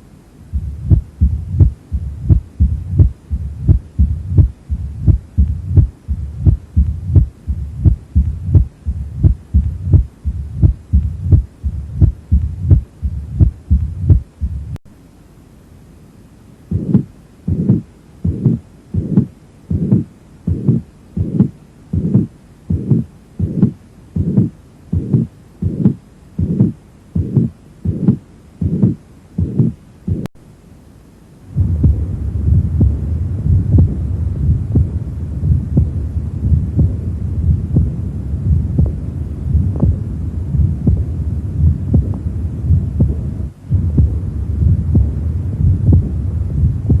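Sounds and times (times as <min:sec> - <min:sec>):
heartbeat: 0:00.5 - 0:14.8, 0:16.7 - 0:30.3, 0:31.6 - 0:47.0
low rumbling heart murmur: 0:00.5 - 0:14.8, 0:16.7 - 0:30.3, 0:31.6 - 0:47.0.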